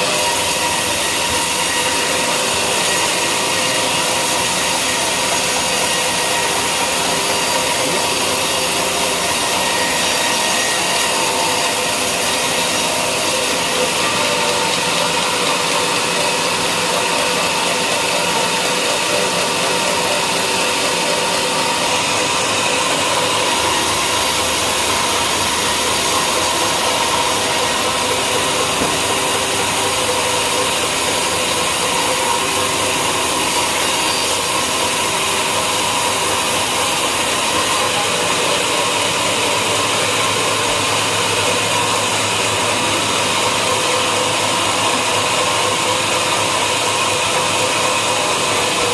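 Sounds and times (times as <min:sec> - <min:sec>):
sawmill saw cutting timber: 0:00.0 - 0:48.9.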